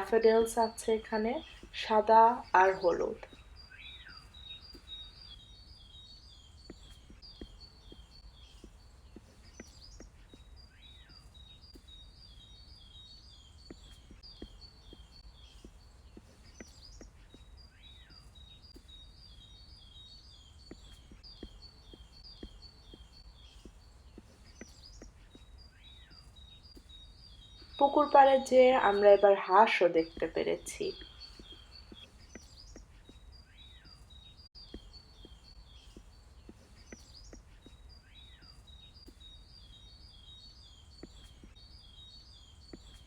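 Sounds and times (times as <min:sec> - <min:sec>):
faint birdsong chirps: 0:00.0 - 0:43.0.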